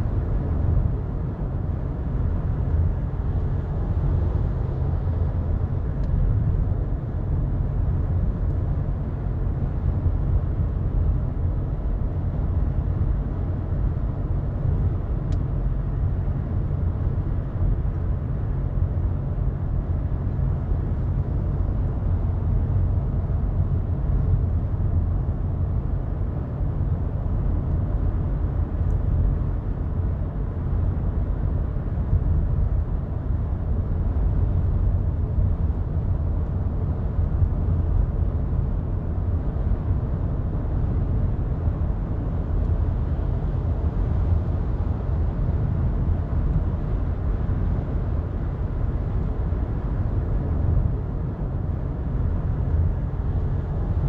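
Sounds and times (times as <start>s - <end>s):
car rumble inside cabin: 0.0s - 54.0s.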